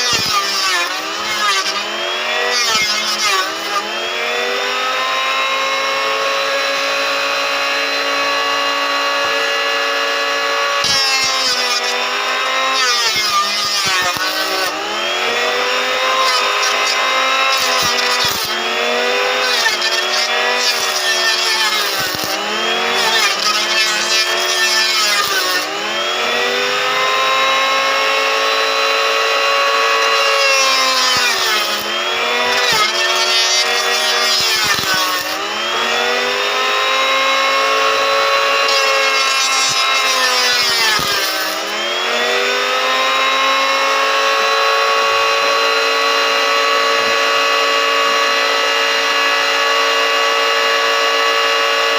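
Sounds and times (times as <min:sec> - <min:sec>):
jointer motor whining: 0:00.0 - 0:51.9.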